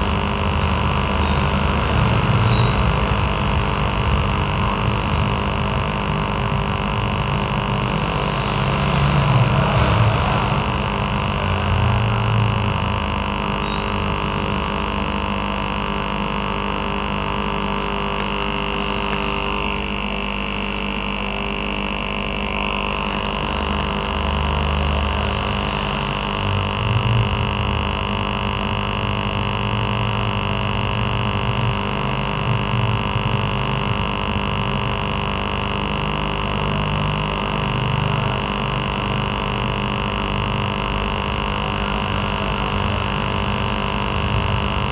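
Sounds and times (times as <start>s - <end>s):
aquarium air pump humming: 0.0s - 44.9s.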